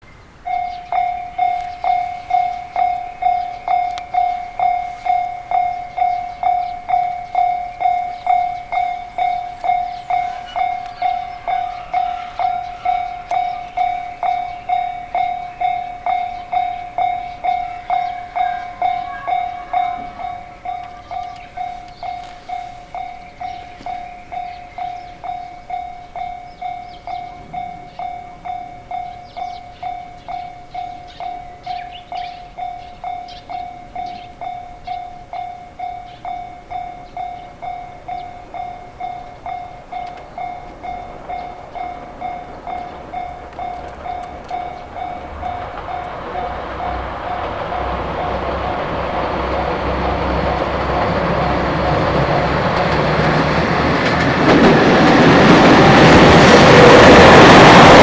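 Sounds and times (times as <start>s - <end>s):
level crossing warning bell: 0.2s - 58.0s.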